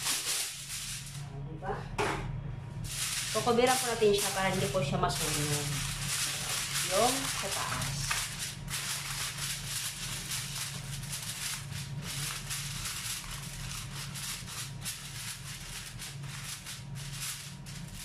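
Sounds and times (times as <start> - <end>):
aluminium foil crinkling: 0.0 - 1.2, 2.9 - 18.0
low steady hum: 0.0 - 18.0.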